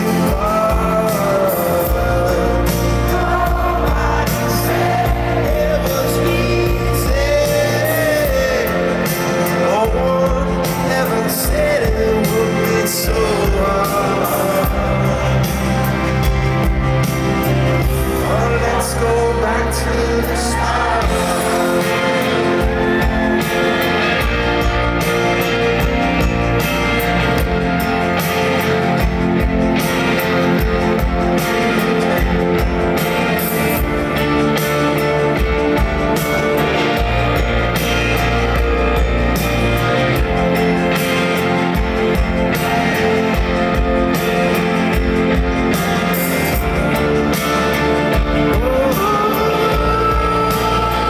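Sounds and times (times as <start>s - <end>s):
electric guitar: 0.0s - 51.0s
live rock band playing: 0.0s - 51.0s
steady drum beat: 0.0s - 51.0s.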